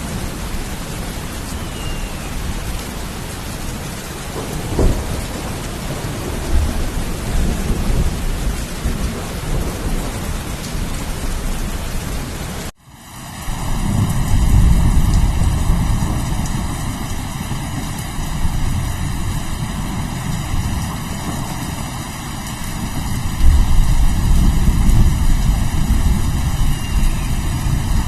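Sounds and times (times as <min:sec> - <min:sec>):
thunder rumbling: 0:00.0 - 0:12.7, 0:13.5 - 0:28.0
steady rain: 0:00.0 - 0:28.0.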